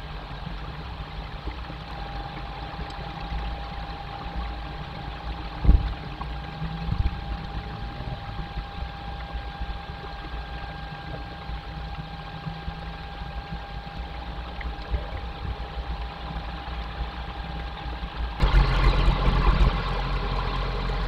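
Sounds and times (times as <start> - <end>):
thin constant whine: 0.0 - 21.0.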